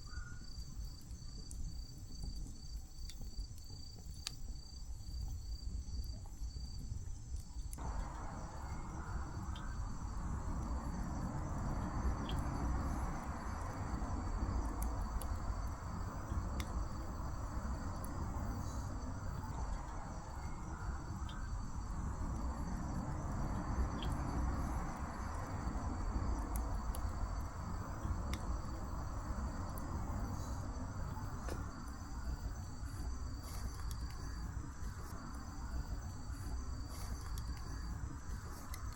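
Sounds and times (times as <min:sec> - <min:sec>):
insects trilling: 0:00.0 - 0:38.9
sharp crackles: 0:00.0 - 0:38.9
low rumbling hiss: 0:06.8 - 0:38.9.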